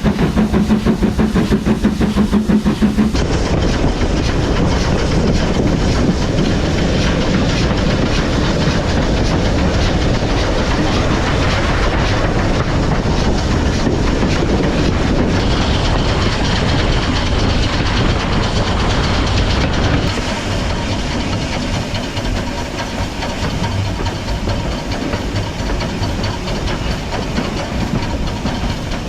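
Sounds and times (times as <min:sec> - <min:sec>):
train wheels on track: 0:00.0 - 0:29.0.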